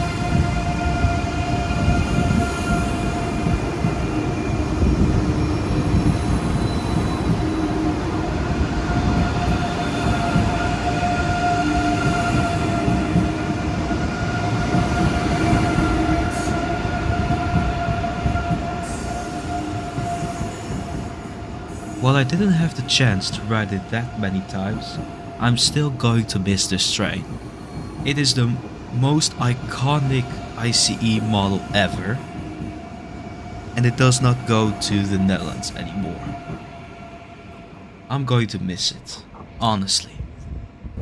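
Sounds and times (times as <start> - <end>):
electric train departure whine: 0.0 - 38.1
rumble of train wheels: 0.0 - 41.0.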